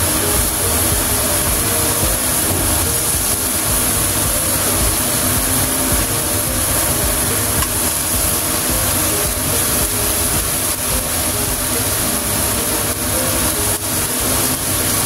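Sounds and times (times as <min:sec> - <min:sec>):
stove burner rushing: 0:00.0 - 0:15.0.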